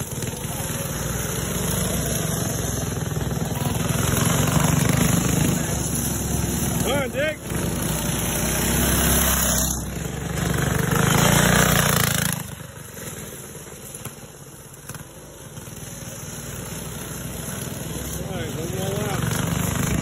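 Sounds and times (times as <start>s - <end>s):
faint kart engine: 0.0s - 20.0s
go-kart engine passing: 0.0s - 20.0s.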